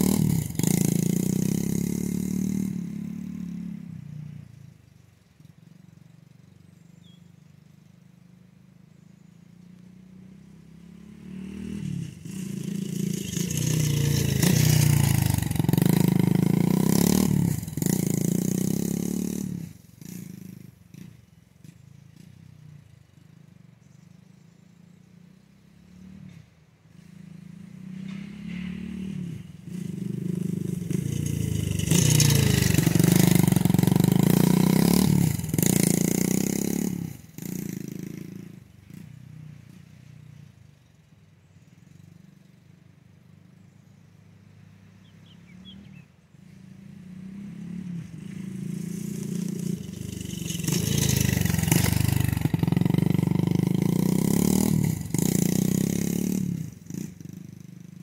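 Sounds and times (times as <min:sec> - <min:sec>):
dirt bike engine passing by: 0:00.0 - 0:58.0.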